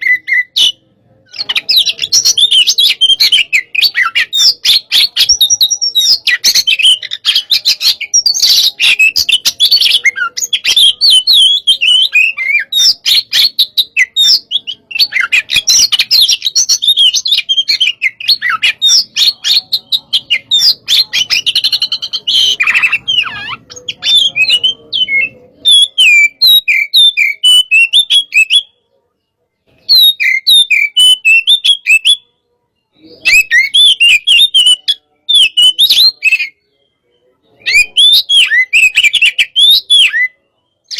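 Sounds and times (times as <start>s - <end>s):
bird singing chirps and whistles: 0.0s - 28.8s, 29.8s - 32.3s, 32.9s - 40.9s.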